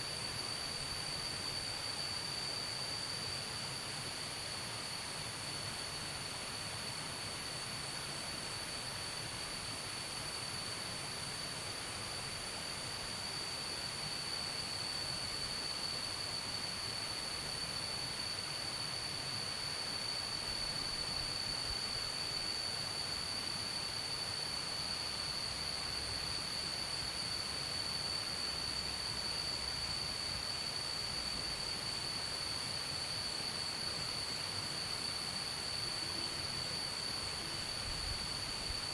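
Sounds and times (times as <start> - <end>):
even hiss: 0.0 - 38.9
faint high buzz: 0.0 - 38.9
insects droning: 0.0 - 38.9.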